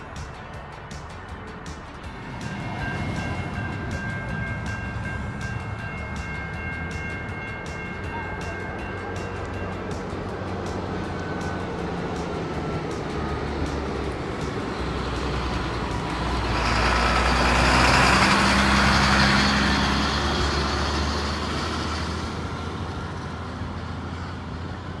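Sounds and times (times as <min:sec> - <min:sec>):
distant traffic rumble: 0:00.0 - 0:25.0
truck driving past: 0:00.0 - 0:25.0.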